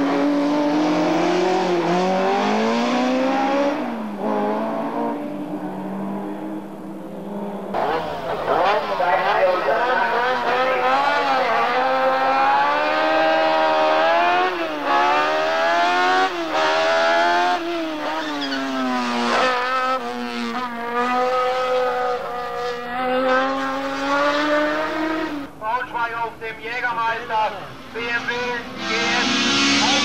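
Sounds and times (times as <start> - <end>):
race car engine revving: 0.0 - 25.5, 27.7 - 30.0.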